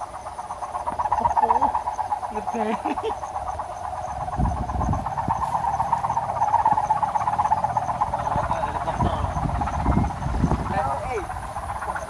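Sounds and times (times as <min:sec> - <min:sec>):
kite hummer droning: 0:00.0 - 0:12.0
wind rumbling on microphone: 0:00.0 - 0:12.0.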